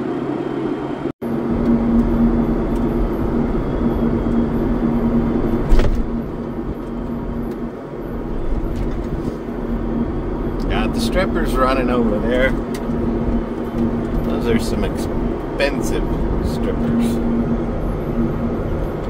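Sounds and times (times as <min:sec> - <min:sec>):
vehicle engine running: 0:00.4 - 0:19.0.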